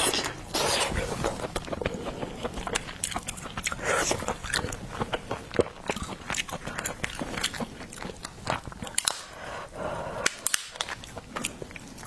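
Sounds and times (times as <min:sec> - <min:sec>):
person chewing: 0:00.0 - 0:09.6, 0:10.2 - 0:12.0.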